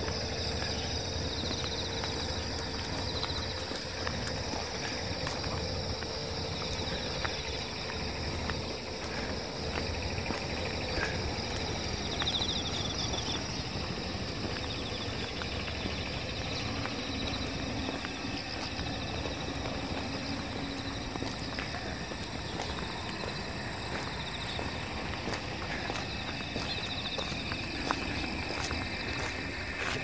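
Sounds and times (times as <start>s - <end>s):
footsteps on asphalt: 0.0s - 30.0s
insect trill: 0.0s - 30.0s
insects buzzing: 0.0s - 30.0s.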